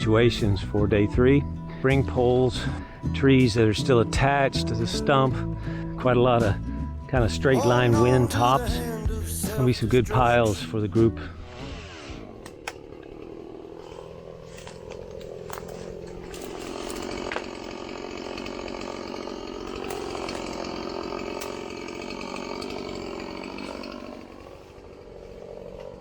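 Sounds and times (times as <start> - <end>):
chainsaw cutting into tree: 0.0 - 26.0.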